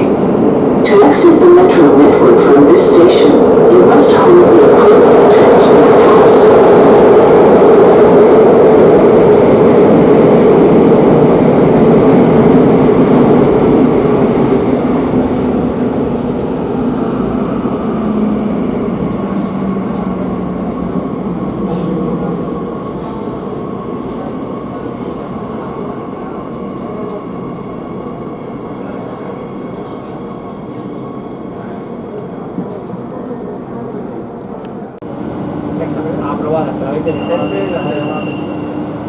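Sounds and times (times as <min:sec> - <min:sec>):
metro train running at speed: 0:00.0 - 0:39.0.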